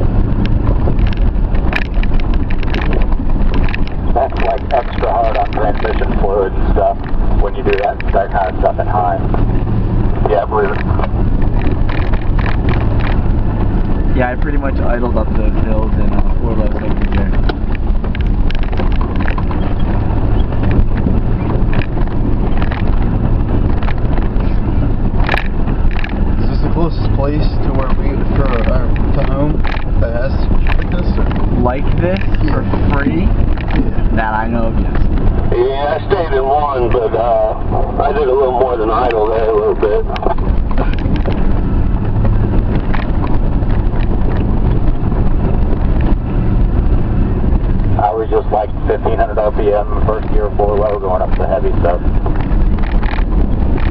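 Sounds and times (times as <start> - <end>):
chassis knocks and rattles: 0.0 - 35.5, 39.1 - 48.0, 50.2 - 53.9
vehicle engine running: 0.0 - 53.9
wind buffeting microphone: 0.0 - 53.9.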